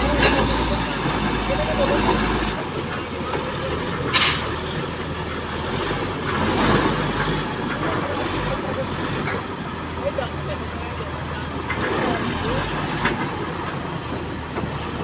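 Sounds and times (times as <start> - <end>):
construction equipment and truck engines: 0.0 - 15.0.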